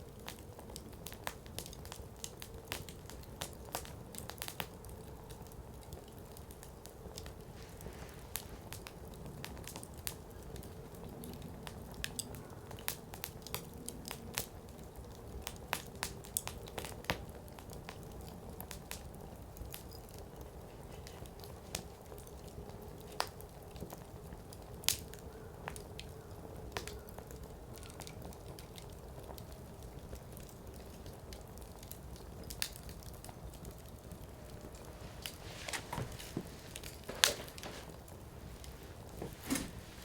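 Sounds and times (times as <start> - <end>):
campfire crackling and popping: 0.0 - 40.0
low rumble of flames: 0.0 - 40.0.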